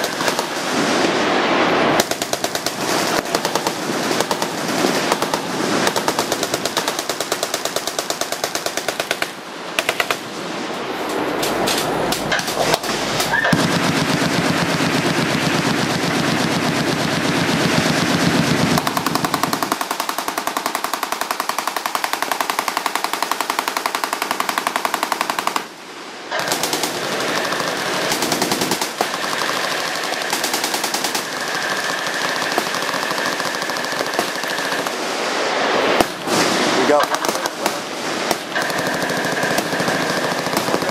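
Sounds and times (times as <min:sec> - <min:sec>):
machine guns firing: 0:00.0 - 0:01.2, 0:01.9 - 0:10.4, 0:11.4 - 0:35.2, 0:35.8 - 0:40.9.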